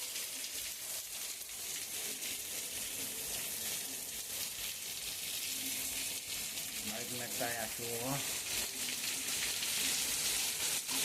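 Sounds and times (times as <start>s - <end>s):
heavy rain pattering: 0.0s - 11.0s.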